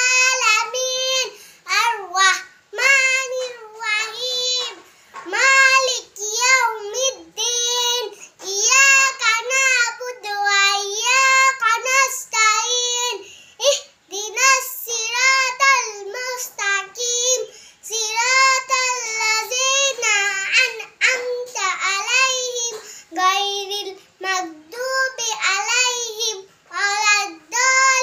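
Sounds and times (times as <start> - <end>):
girl singing unaccompanied: 0.0 - 28.0.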